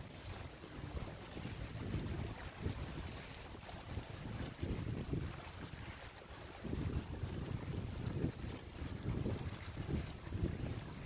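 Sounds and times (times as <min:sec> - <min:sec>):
sea washing on rocky shore: 0:00.0 - 0:11.0
wind buffeting microphone: 0:00.0 - 0:11.0.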